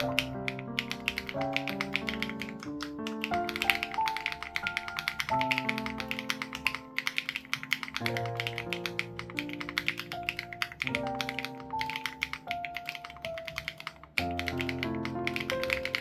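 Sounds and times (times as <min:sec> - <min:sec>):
mechanical keyboard typing: 0:00.0 - 0:16.0.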